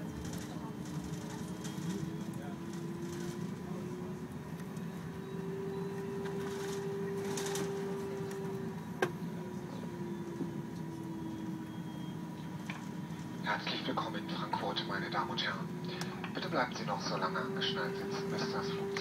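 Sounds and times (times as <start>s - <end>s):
aircraft cabin rumble and hum: 0.0s - 19.0s.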